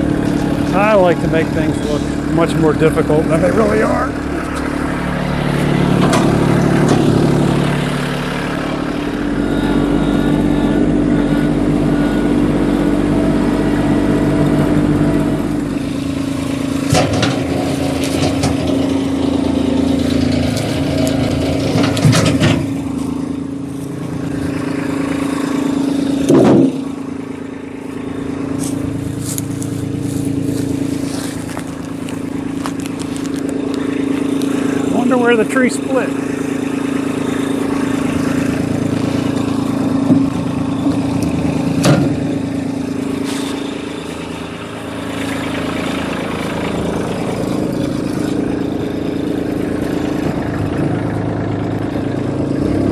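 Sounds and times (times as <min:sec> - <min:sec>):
loader knocks and clanks: 0:00.0 - 0:27.3, 0:36.3 - 0:52.9
tractor diesel engine running: 0:00.0 - 0:52.9.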